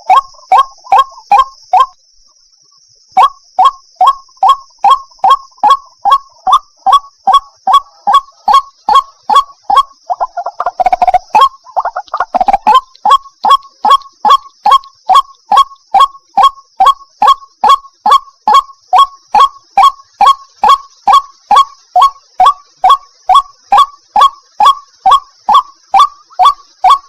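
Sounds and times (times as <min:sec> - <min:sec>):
waterhen repeated call: 0:00.0 - 0:02.0, 0:03.2 - 0:27.0.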